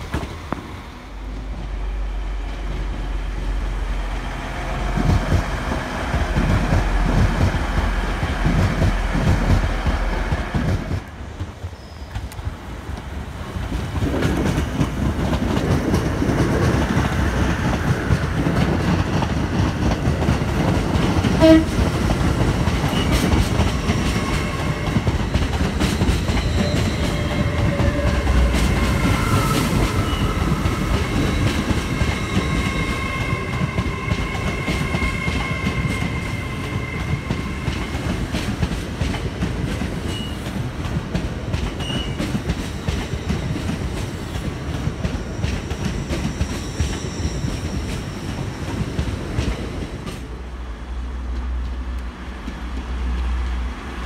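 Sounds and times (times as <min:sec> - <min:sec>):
trains rumbling on rails: 0:00.0 - 0:54.0.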